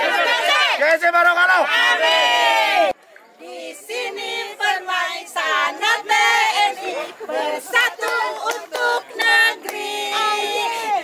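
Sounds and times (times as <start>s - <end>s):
voices singing: 0.0s - 0.8s, 1.6s - 11.0s.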